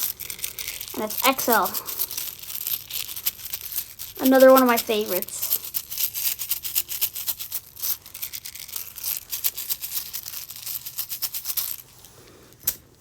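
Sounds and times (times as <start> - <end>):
plastic beads rattling: 0.0 - 11.9.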